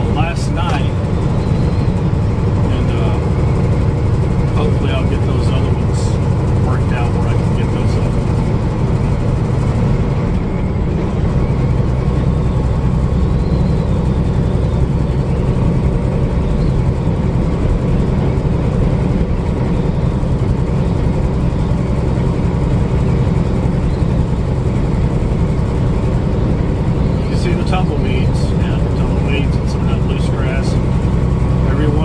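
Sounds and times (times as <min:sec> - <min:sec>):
diesel truck engine droning: 0:00.0 - 0:32.0
road noise: 0:00.0 - 0:32.0.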